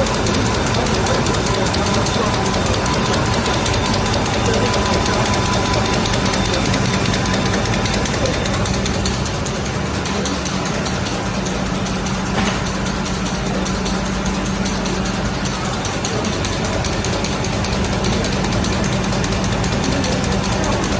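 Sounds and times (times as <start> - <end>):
fast mechanical clatter: 0.0 - 20.9
printing machine hum: 0.0 - 20.9.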